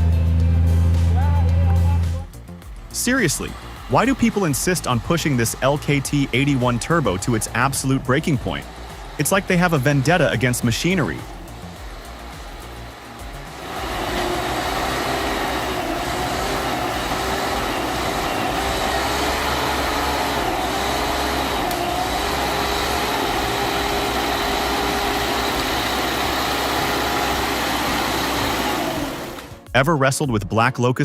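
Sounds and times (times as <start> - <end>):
diesel engine droning under load: 0.0 - 29.7.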